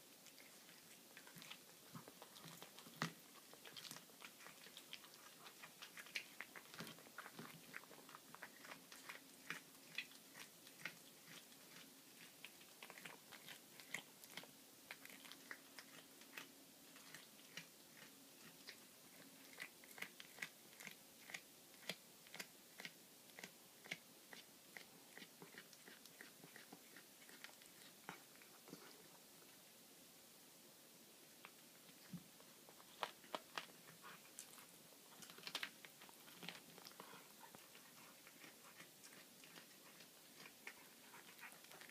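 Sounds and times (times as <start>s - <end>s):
cat teeth crunching on bone: 0.2s - 28.9s, 31.4s - 41.9s.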